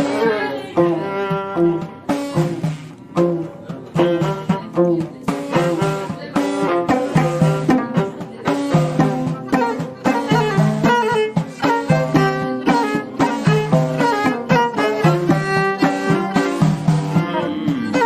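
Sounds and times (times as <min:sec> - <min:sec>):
string instruments playing melody: 0:00.0 - 0:18.0.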